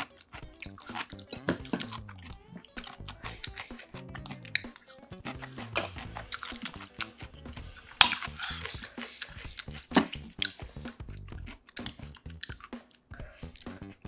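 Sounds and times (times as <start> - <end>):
soft background music: 0.0 - 14.0
stew dripping: 0.0 - 14.0.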